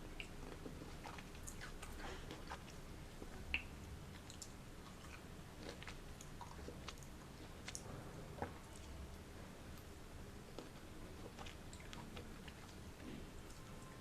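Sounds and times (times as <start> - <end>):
chewing juicy fruit: 0.0 - 14.0.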